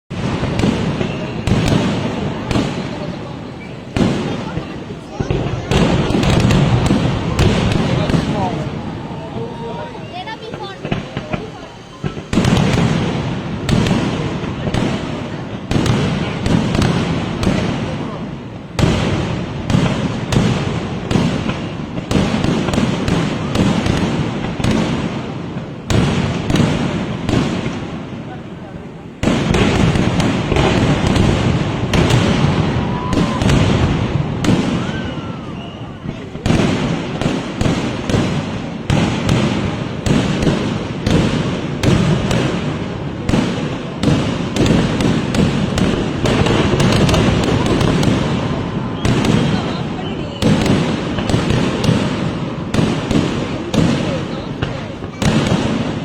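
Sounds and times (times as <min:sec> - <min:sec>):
rolling rumble and echo: 0:00.1 - 0:55.8
fireworks bangs: 0:00.1 - 0:56.0.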